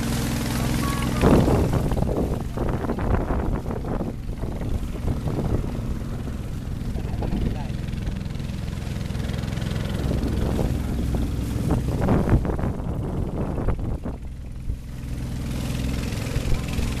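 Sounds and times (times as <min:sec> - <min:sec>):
motorboat engine running: 0:00.0 - 0:17.0
water splashing at bow: 0:00.0 - 0:17.0.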